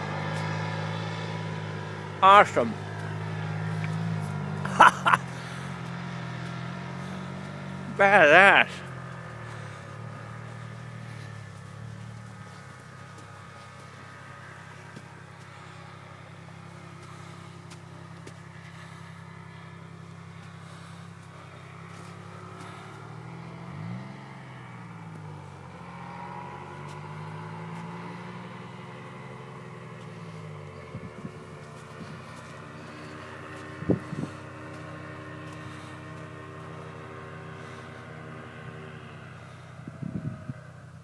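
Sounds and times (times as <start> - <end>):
paramotor engine droning: 0.0 - 41.0.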